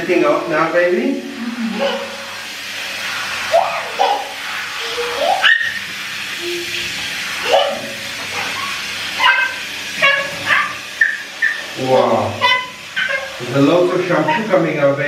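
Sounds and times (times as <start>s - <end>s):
shower spraying water on hair: 0.0s - 15.0s.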